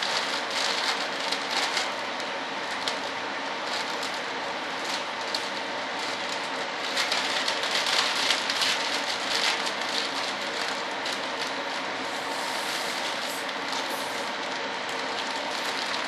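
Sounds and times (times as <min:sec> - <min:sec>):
plastic film crinkling: 0:00.0 - 0:16.0.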